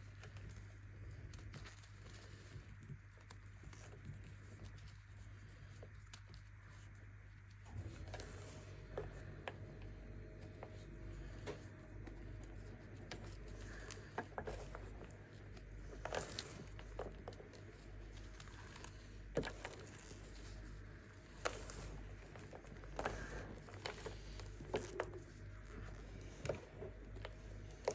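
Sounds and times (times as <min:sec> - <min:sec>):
faint low hum: 0:00.0 - 0:27.9.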